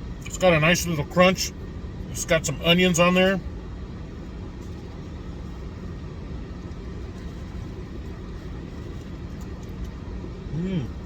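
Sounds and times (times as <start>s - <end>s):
car rumble inside cabin: 0.0s - 11.0s.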